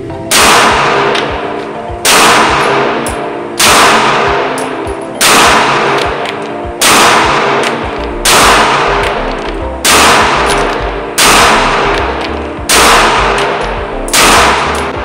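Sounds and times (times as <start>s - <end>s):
background music: 0.0s - 15.0s
pistol shots echoing: 0.0s - 15.0s.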